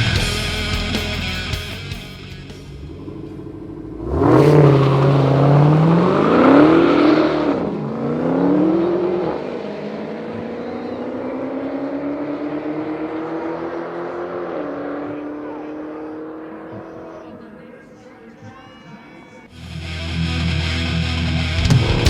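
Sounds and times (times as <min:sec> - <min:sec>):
cars launching in drag race: 0:00.0 - 0:18.4.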